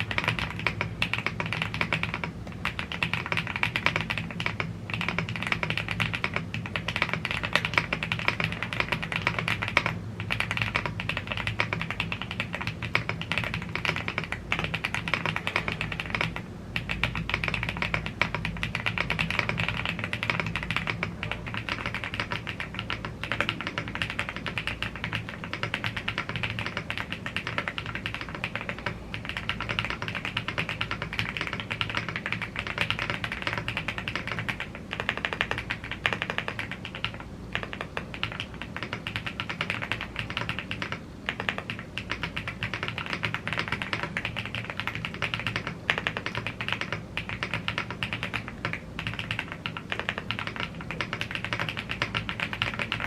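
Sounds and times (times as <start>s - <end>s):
fast mechanical keyboard typing: 0.0s - 53.0s.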